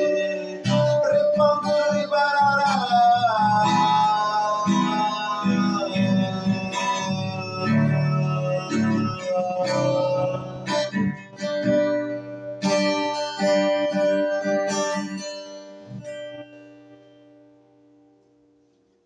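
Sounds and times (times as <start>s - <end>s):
guitar strumming chords: 0.0s - 18.6s.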